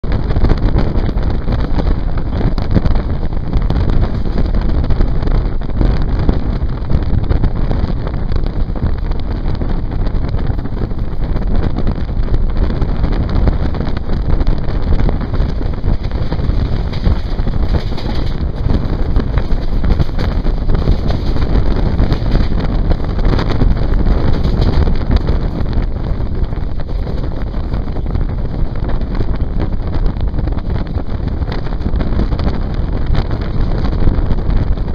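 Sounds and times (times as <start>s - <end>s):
wind buffeting microphone: 0.0s - 34.9s
train running noise: 0.2s - 11.8s, 12.4s - 34.9s.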